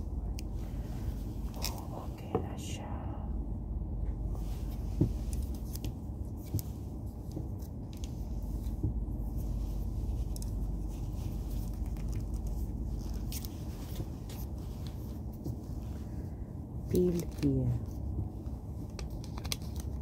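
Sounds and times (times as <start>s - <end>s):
train carriage rumble: 0.0s - 20.0s.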